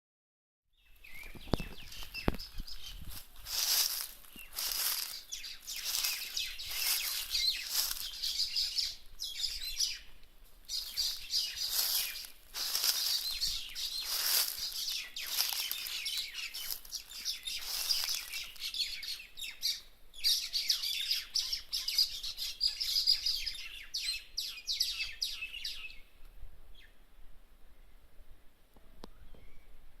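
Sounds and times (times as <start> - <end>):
birds chirping: 0.7 - 26.1.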